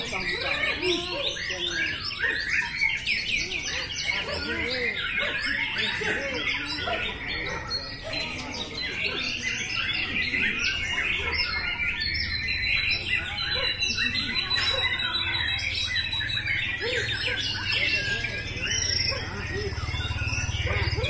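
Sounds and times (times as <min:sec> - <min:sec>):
birds singing chirps and whistles: 0:00.0 - 0:21.0.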